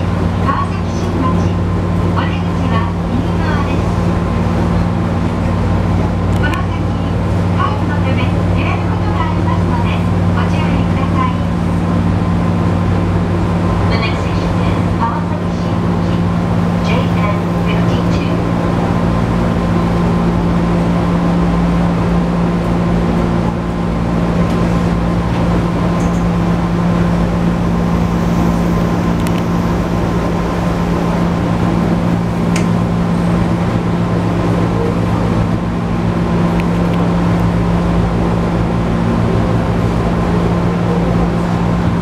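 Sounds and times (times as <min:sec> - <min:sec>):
rumble of train wheels: 0:00.0 - 0:42.0
train interior hum: 0:00.0 - 0:42.0.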